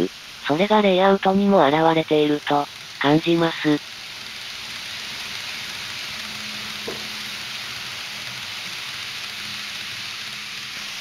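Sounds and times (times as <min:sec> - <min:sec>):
faint motor hum: 0:00.0 - 0:11.0
model train rolling hiss: 0:00.0 - 0:11.0.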